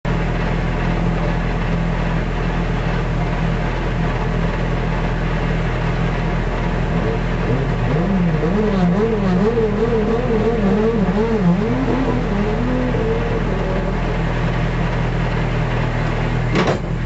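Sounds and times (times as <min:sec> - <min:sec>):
rally car engine idling: 0:00.1 - 0:17.0.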